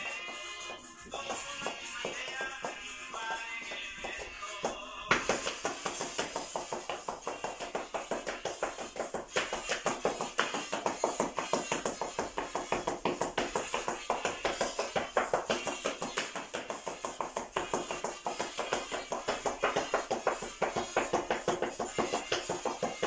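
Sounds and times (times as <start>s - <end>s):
folk dance music: 0.0s - 23.0s
shoes tapping on tile floor: 0.0s - 23.0s.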